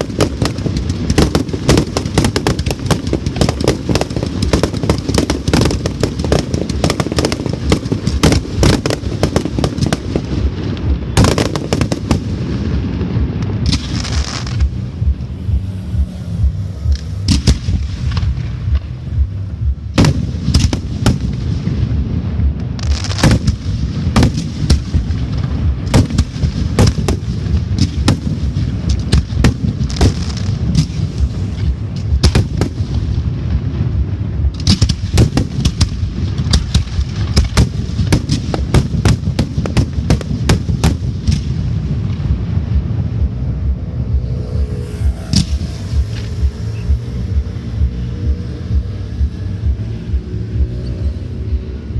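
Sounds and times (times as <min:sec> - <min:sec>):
constant low rumble: 0:00.0 - 0:51.9
fireworks bangs: 0:00.0 - 0:51.9.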